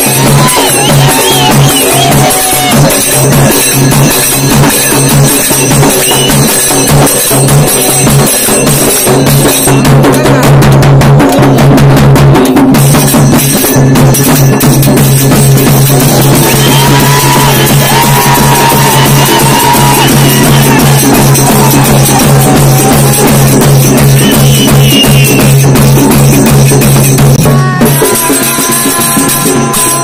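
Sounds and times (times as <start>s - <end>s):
barrel drum beaten with stick: 0.0s - 30.0s.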